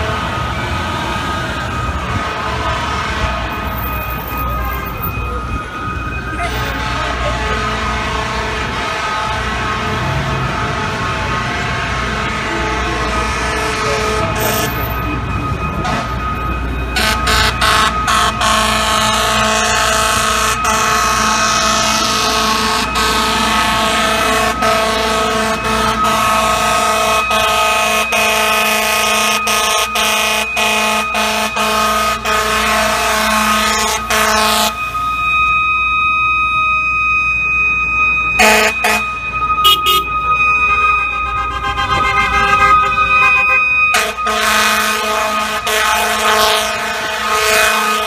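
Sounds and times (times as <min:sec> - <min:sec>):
fire truck air horn blasting: 0:00.0 - 0:48.0
fire truck siren: 0:00.0 - 0:48.0.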